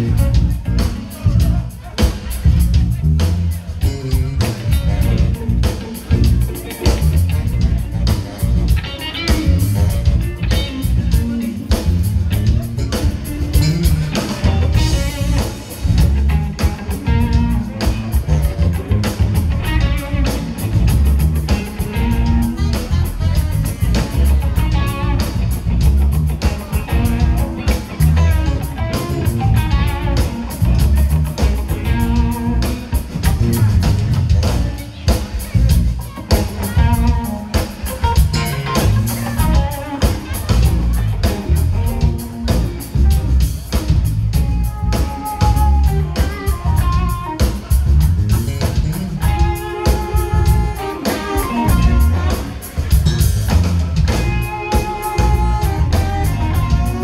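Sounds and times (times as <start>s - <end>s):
bass guitar: 0.0s - 57.0s
drum kit steady beat: 0.0s - 57.0s
electric guitars: 0.0s - 57.0s.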